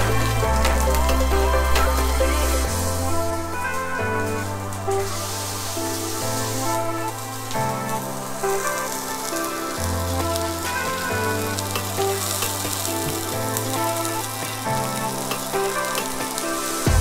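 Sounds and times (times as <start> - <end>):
food sizzling in a pan: 0.0 - 16.9
slow background music: 0.0 - 17.0.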